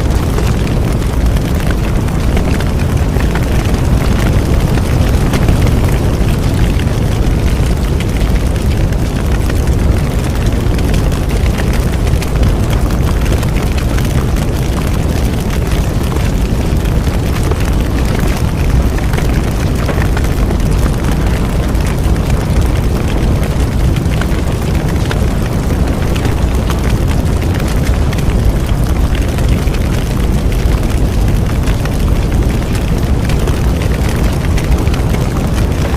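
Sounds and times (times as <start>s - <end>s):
low rumble of flames: 0.0s - 35.9s
wood crackling and popping: 0.0s - 35.9s.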